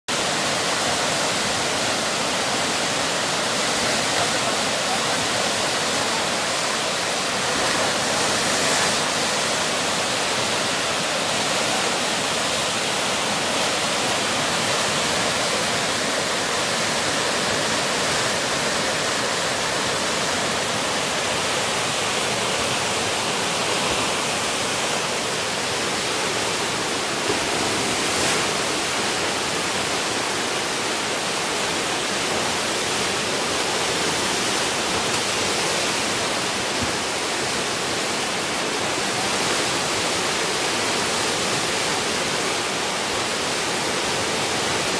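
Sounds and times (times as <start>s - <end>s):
river rapids rushing: 0.1s - 44.9s.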